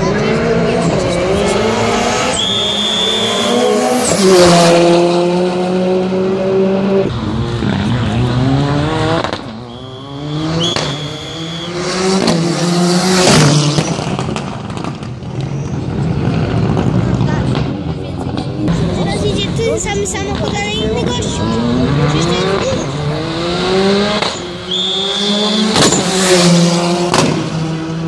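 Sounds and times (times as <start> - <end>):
rally cars passing at full throttle: 0.0 - 28.0.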